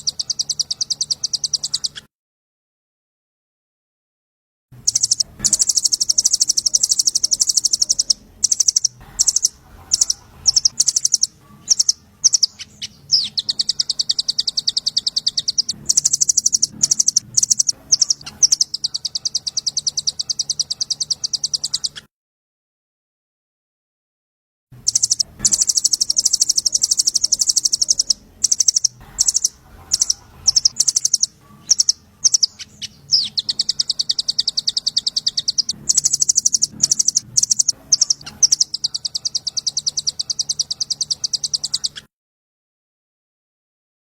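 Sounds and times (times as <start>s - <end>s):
songbird trilling: 0.0s - 2.0s, 4.9s - 22.0s, 24.8s - 42.1s.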